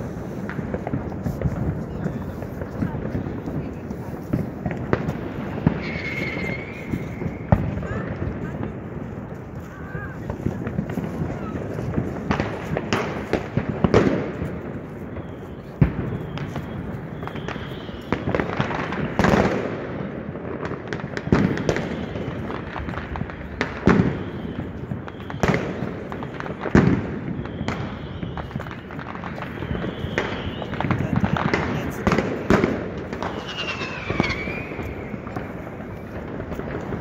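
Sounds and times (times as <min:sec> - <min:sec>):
distant firecrackers crackling: 0:00.0 - 0:37.0
fireworks banging with echo: 0:00.0 - 0:37.0.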